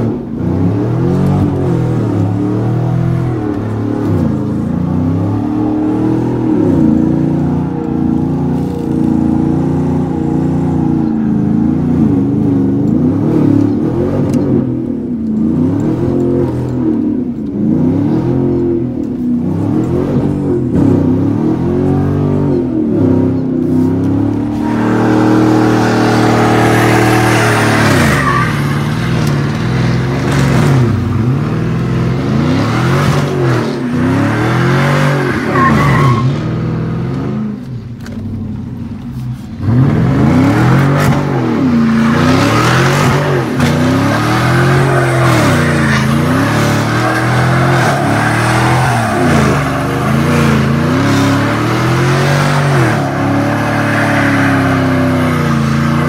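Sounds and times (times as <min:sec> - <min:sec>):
truck engine revving: 0:00.0 - 0:37.7, 0:39.5 - 0:56.0.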